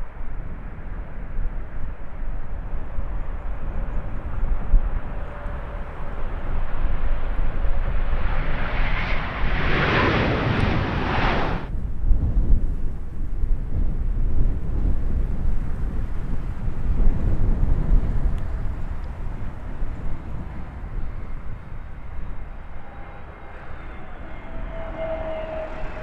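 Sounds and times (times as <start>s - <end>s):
wind rumble on microphone: 0.0s - 26.0s
jet airliner passing: 0.1s - 26.0s.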